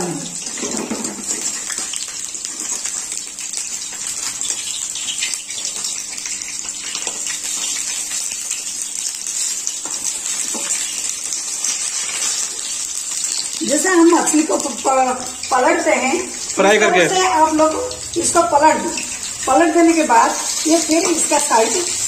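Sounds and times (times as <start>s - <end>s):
frying in hot oil sizzling: 0.0s - 22.0s.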